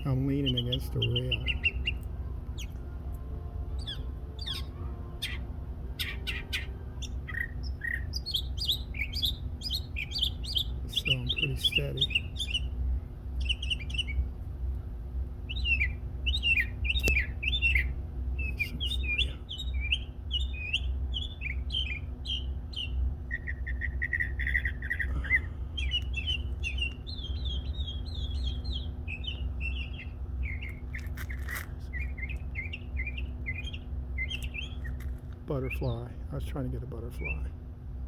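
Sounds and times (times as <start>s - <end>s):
songbirds singing: 0.0s - 38.0s
steady low rumble: 0.0s - 38.0s.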